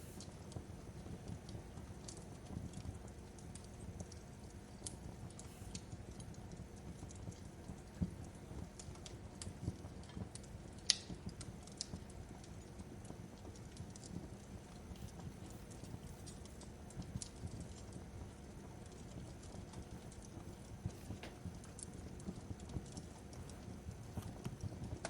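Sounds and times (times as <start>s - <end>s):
fire pops and snaps: 0.0s - 25.0s
low fire rumble: 0.0s - 25.0s.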